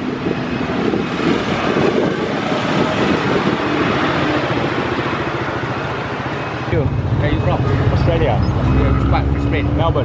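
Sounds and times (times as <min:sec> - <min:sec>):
wind buffeting microphone: 0:00.0 - 0:09.2
road and traffic noise: 0:00.0 - 0:10.0.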